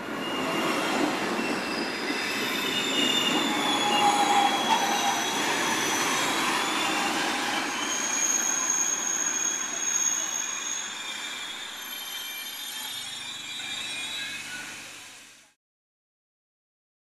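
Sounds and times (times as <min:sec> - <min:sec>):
metallic squealing: 0:00.2 - 0:15.2.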